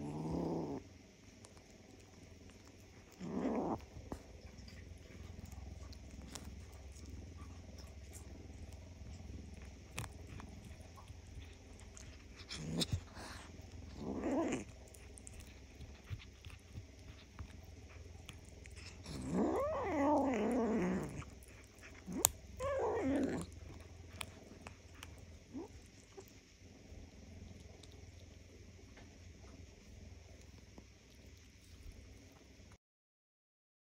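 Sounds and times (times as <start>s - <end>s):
kitten growling: 0.0s - 32.7s.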